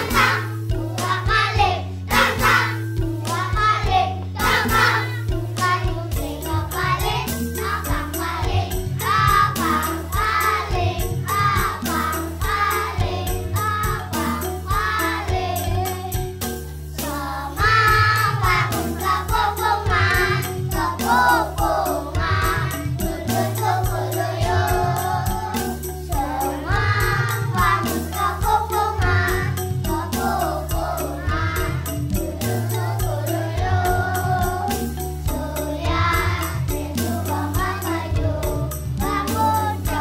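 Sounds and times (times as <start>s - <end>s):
children singing: 0.0s - 40.0s
instrumental accompaniment with beat: 0.0s - 40.0s.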